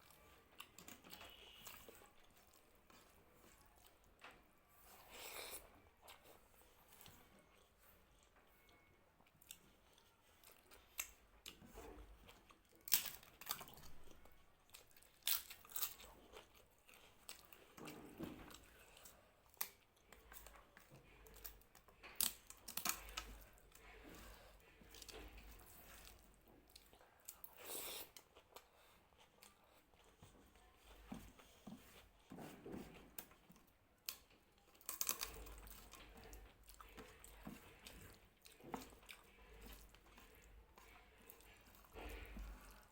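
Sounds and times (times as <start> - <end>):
person chewing crunchy food: 0.0 - 4.1, 4.8 - 42.9.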